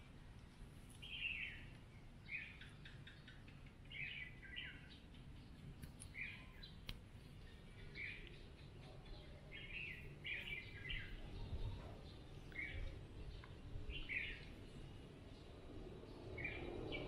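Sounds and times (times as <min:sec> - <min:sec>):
bird chirping: 0:00.0 - 0:17.0
outdoor background noise: 0:00.0 - 0:17.0.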